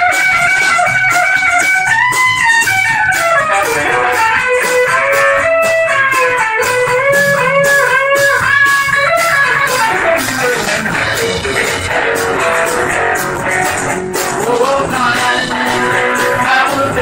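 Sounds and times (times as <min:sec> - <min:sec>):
country band playing: 0:00.0 - 0:17.0
held bending lead notes: 0:00.0 - 0:17.0
steady drum beat: 0:00.0 - 0:17.0.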